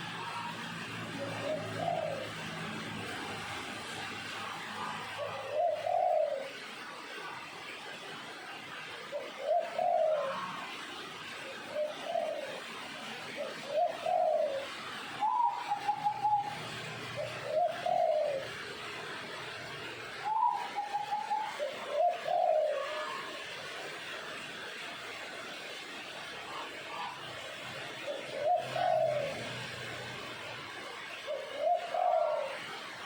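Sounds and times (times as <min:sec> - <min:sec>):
dove cooing: 0:00.0 - 0:33.0
dove pulsed trill: 0:00.0 - 0:33.0.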